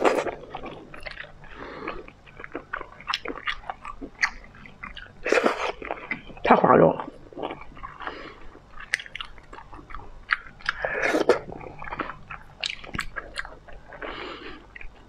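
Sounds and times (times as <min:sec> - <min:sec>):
chewing seafood: 0:00.0 - 0:15.0.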